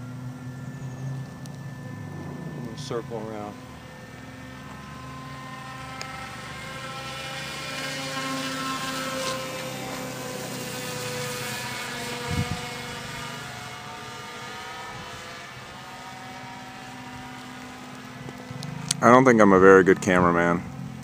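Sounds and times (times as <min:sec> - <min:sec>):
model airplane propeller drone: 0:00.0 - 0:21.0.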